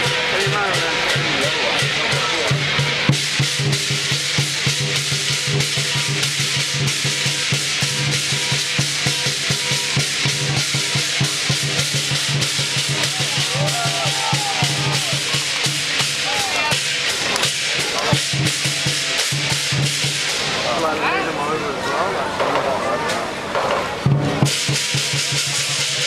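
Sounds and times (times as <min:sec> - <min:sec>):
large drum beating rapidly: 0:00.0 - 0:21.0, 0:23.5 - 0:26.0
cymbals crashing: 0:00.0 - 0:21.3, 0:23.6 - 0:26.0.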